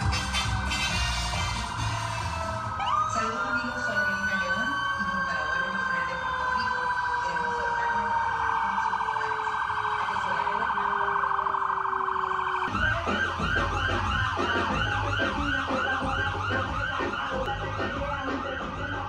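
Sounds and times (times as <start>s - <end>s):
fast warbling siren: 0.0s - 19.0s
siren sweeping up and down: 0.0s - 19.0s.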